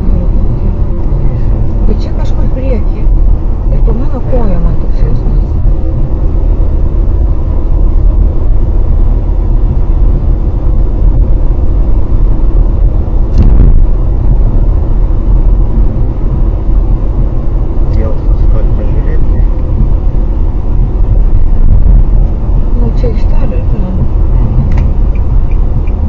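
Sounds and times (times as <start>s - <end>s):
car low rumble: 0.0s - 26.0s.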